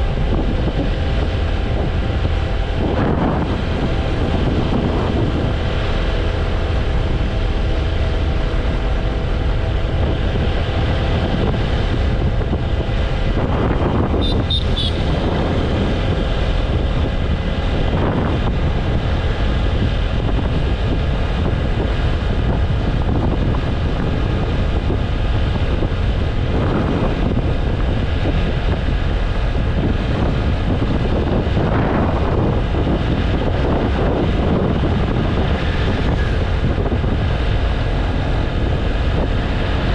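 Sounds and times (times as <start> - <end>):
motorcycle engine cruising: 0.0 - 39.9
vehicles passing: 0.0 - 39.9
wind buffeting microphone: 0.0 - 39.9.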